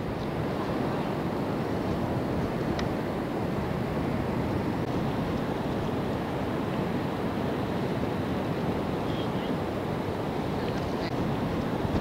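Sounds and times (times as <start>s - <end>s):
distant surf breaking: 0.0s - 12.0s
wind rumbling on microphone: 0.0s - 12.0s.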